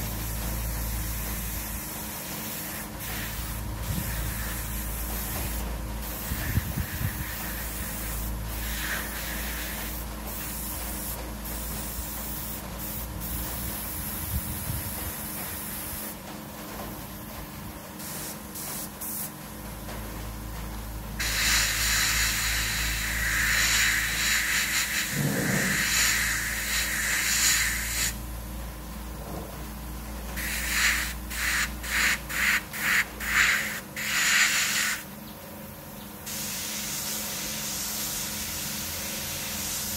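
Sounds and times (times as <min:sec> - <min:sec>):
airbrush spraying: 0:00.0 - 0:16.2, 0:18.0 - 0:19.3, 0:21.2 - 0:28.2, 0:30.4 - 0:35.1, 0:36.3 - 0:39.9.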